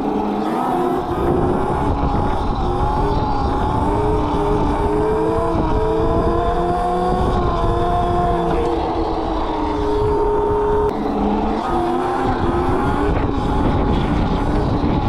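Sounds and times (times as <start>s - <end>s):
electric motor whining: 0.0s - 15.0s
wind and road rumble: 1.0s - 15.0s.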